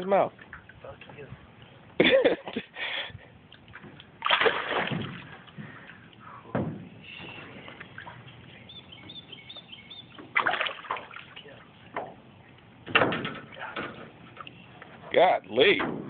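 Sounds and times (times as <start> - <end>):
water splashing and sloshing: 0.0 - 1.7, 3.2 - 16.0.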